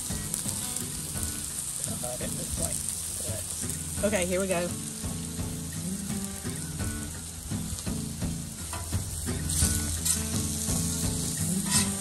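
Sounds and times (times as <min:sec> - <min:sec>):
food sizzling on grill: 0:00.0 - 0:12.0.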